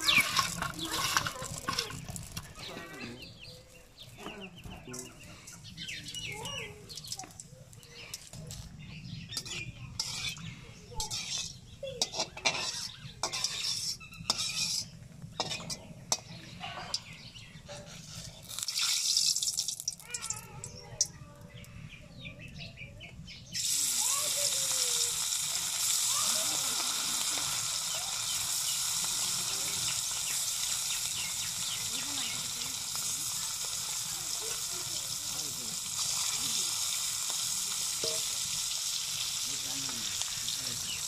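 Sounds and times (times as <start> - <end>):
fish sizzling in hot oil: 0.0 - 2.7, 6.0 - 17.2, 17.9 - 21.6, 23.5 - 41.0
heating oil crackling: 0.0 - 17.4, 18.0 - 22.0, 23.5 - 41.0.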